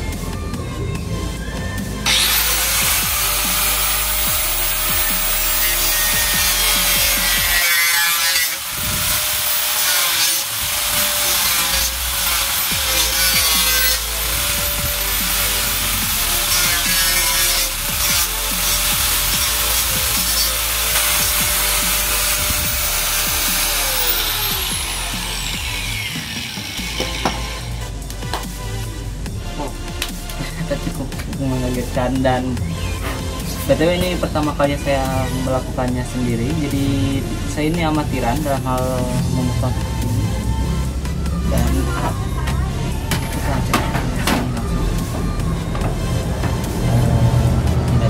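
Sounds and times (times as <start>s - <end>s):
angle grinder cutting acrylic: 1.7s - 48.0s.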